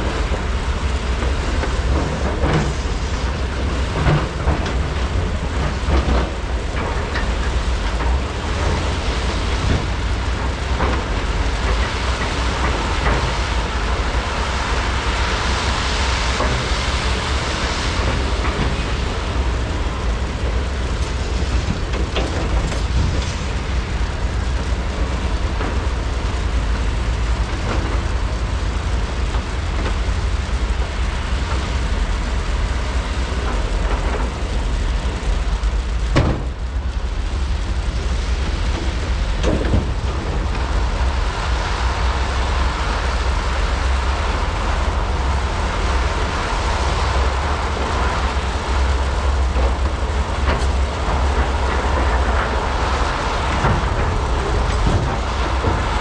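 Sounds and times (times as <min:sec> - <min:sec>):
excavator diesel engines running: 0:00.0 - 0:56.0.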